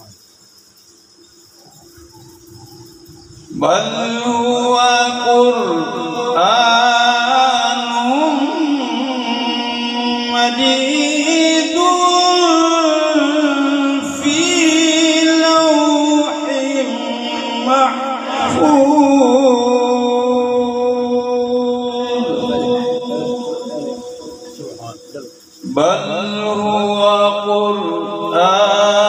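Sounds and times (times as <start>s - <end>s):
man reciting through microphone: 0.0s - 0.2s, 3.3s - 29.0s.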